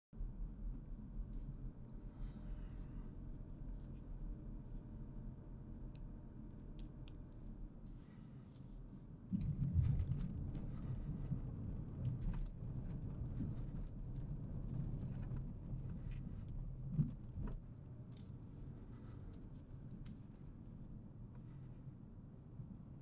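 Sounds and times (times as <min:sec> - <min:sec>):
engine and tyre rumble: 0:00.2 - 0:23.0.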